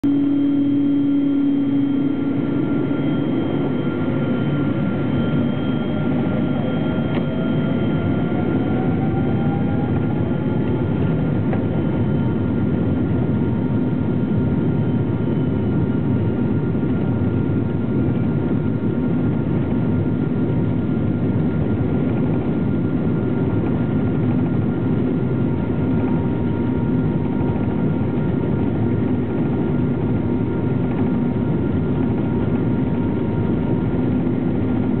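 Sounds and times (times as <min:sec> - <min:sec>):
jet engine whine: 0:00.0 - 0:35.0
jet engines roaring: 0:00.0 - 0:35.0.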